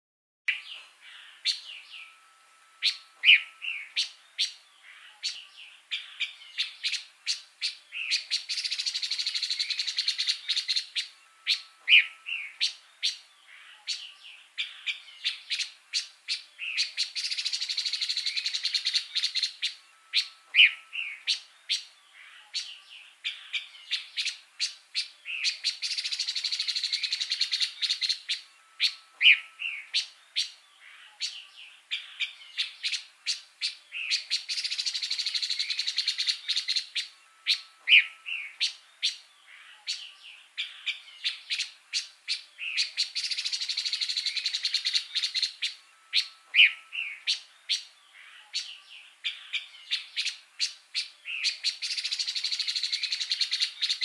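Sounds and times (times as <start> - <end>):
songbird singing: 0.5 - 54.0.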